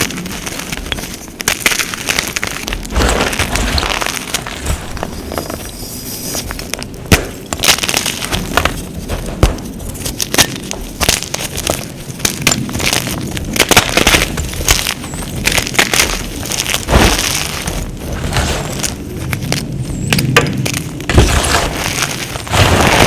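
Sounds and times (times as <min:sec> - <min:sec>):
powder blocks crunching: 0:00.0 - 0:23.0.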